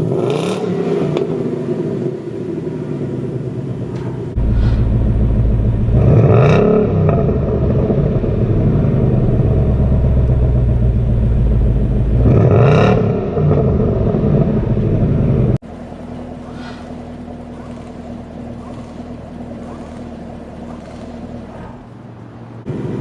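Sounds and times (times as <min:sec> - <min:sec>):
engine revving: 0:00.0 - 0:01.5, 0:03.9 - 0:23.0
sports car exhaust idling: 0:00.8 - 0:23.0.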